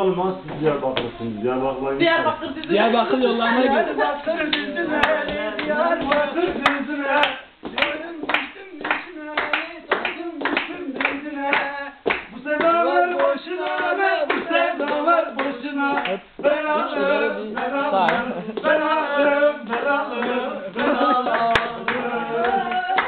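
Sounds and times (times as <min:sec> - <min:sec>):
group singing unaccompanied: 0:00.5 - 0:23.0
rhythmic hand claps: 0:04.0 - 0:23.0.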